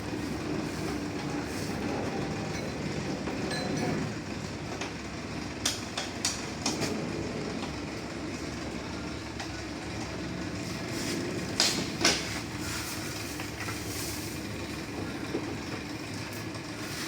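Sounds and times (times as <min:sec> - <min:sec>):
machinery rumbling: 0:00.0 - 0:17.0.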